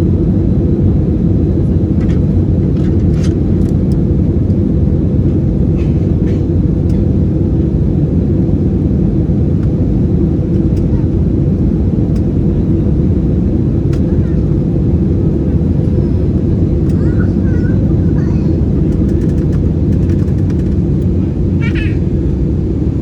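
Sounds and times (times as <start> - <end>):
airplane cabin roar: 0.0 - 23.0.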